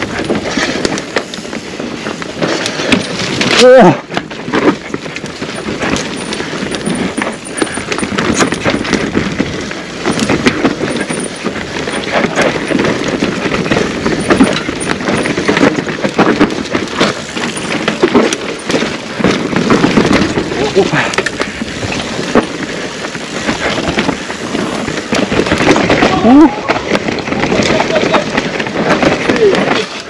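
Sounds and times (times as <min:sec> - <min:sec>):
bike tyres on dirt: 0:00.0 - 0:30.0
chain and frame rattling: 0:00.0 - 0:30.0.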